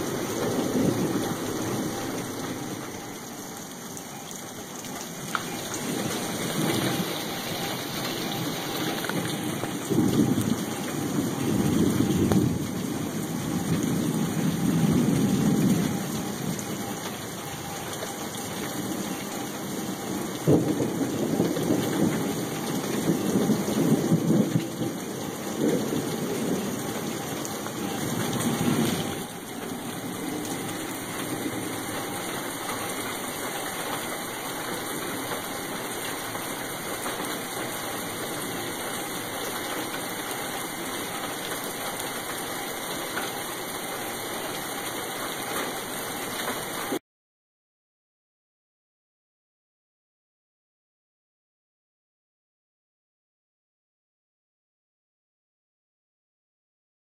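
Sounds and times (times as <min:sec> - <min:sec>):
steady rain: 0:00.0 - 0:47.0
thunder rumbling: 0:00.0 - 0:47.0.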